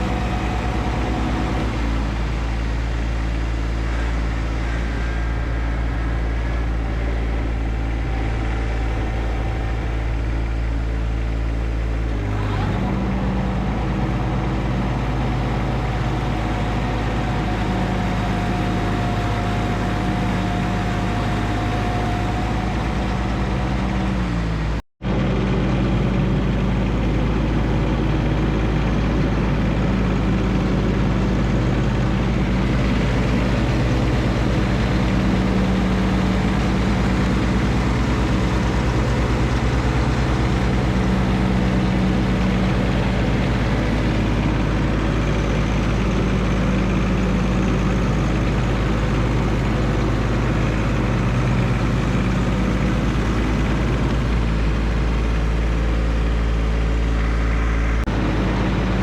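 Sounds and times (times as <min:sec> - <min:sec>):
tractor diesel engine mowing: 0:00.0 - 0:59.0.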